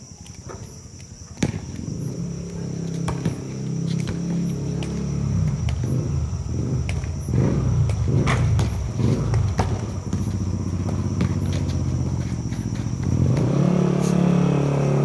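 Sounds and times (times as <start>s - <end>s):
basketball bouncing on concrete: 1.3s - 13.9s
small motorbike engine running: 2.0s - 15.0s.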